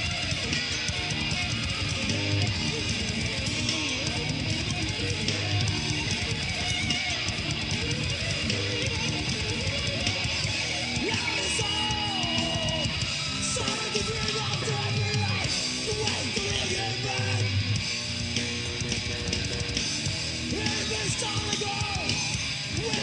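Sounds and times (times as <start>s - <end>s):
heavy metal guitars and bass: 0.0s - 23.0s.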